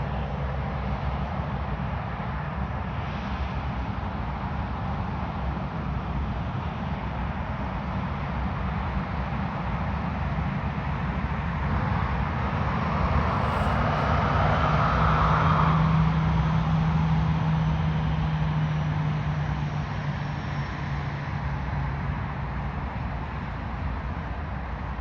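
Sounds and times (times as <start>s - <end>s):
jet airliner engines roaring: 0.0s - 25.0s.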